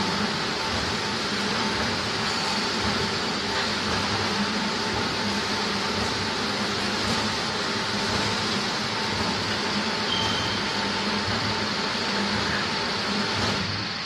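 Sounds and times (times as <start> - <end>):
machine drone with whine: 0.0 - 14.0.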